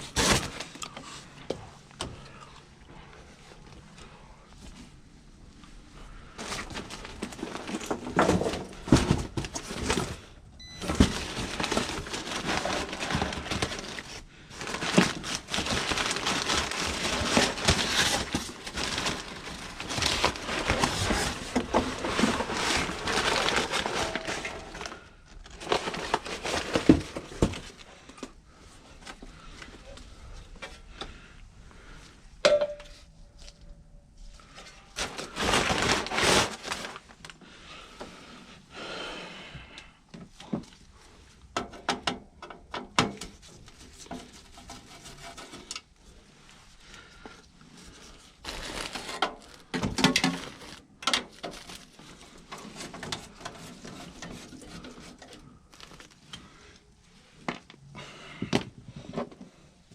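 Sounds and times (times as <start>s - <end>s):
parts and tools rustling: 5.7s - 38.2s, 40.1s - 59.9s.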